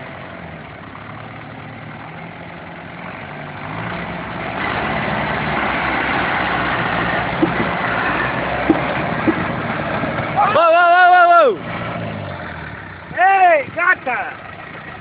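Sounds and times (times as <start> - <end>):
tractor diesel engines running: 0.0 - 15.0.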